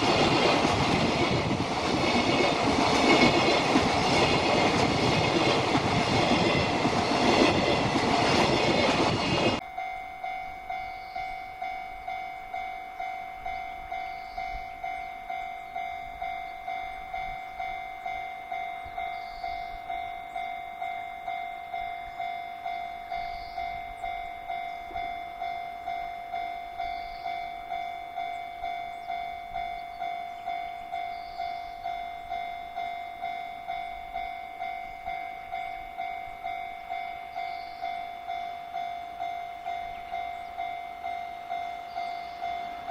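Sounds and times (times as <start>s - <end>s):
freight train passing: 0.0s - 42.9s
level crossing warning bell: 0.0s - 42.9s.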